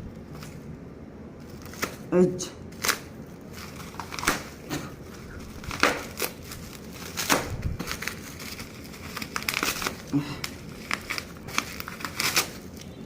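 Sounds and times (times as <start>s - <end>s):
packaging crinkling: 1.4s - 2.1s, 2.7s - 13.0s.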